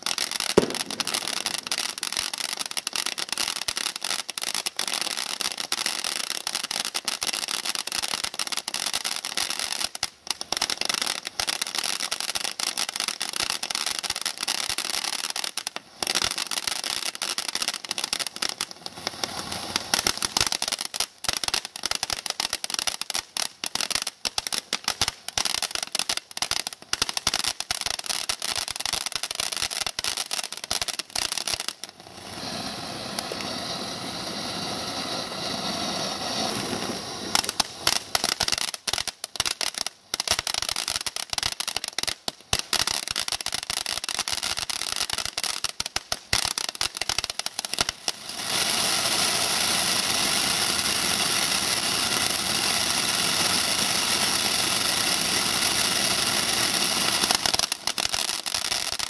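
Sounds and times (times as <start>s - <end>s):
firework fountain gushing sparks: 0.0s - 59.0s
firework popping and crackling: 0.0s - 59.0s
firework sparks hissing: 0.0s - 59.0s.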